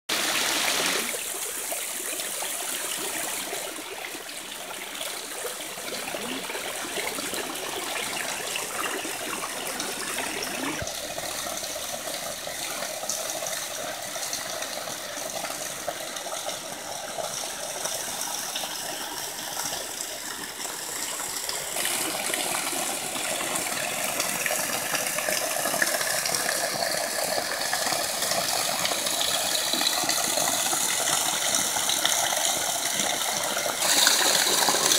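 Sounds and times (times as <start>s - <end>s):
water pouring from a pipe: 0.1s - 34.9s.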